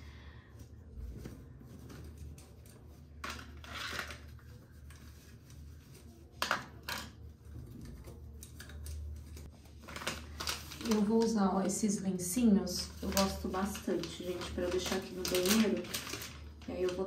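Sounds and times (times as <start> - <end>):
rustle or scrape of household items: 0.7 - 11.7, 12.4 - 17.0.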